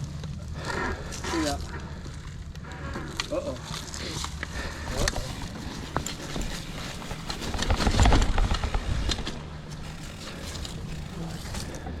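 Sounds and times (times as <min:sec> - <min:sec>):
mountain bike clattering on rocks: 0:00.0 - 0:12.0.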